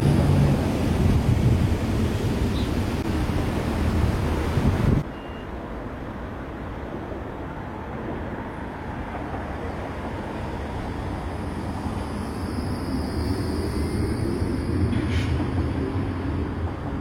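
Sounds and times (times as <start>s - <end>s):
tram rumbling: 0.0s - 17.0s.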